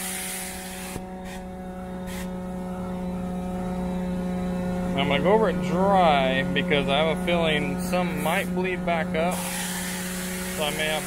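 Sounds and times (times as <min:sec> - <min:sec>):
vacuum humming: 0:00.0 - 0:11.0.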